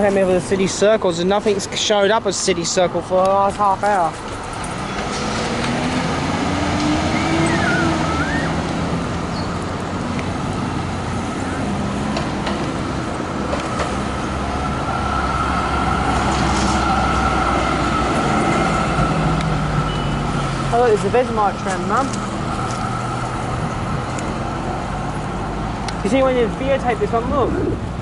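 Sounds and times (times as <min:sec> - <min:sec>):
city traffic passing: 0:00.0 - 0:28.0.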